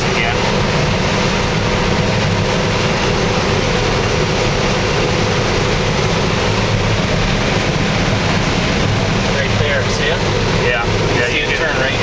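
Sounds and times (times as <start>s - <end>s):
combine harvester engine and machinery humming: 0.0s - 12.0s.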